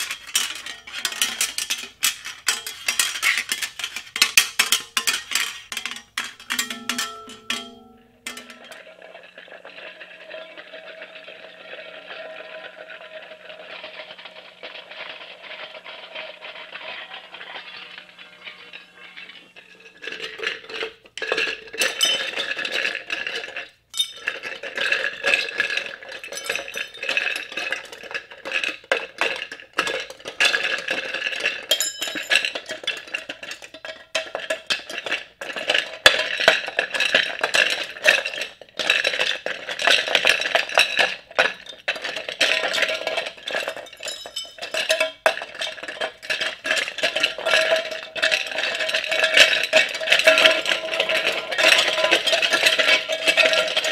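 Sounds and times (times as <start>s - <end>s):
plastic objects clattering: 0.0s - 11.2s, 13.8s - 53.9s.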